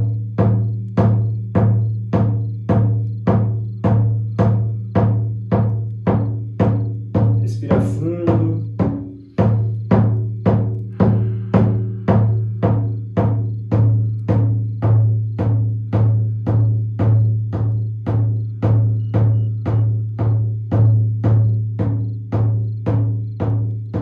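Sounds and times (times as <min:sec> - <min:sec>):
frame drum beating: 0:00.0 - 0:24.0.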